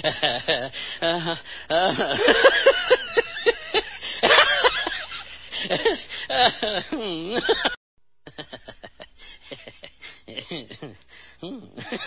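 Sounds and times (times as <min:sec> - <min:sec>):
person laughing and giggling: 0:00.0 - 0:12.0.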